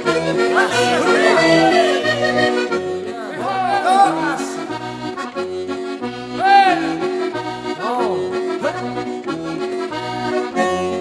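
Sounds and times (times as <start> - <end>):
accordion playing folk tune: 0.0 - 11.0.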